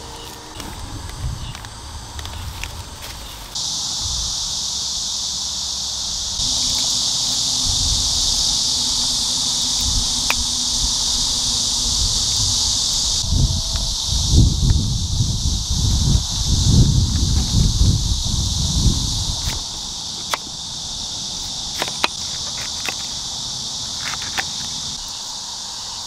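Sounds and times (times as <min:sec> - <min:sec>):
insects buzzing: 0:00.0 - 0:26.0
wind rumble: 0:00.0 - 0:26.0.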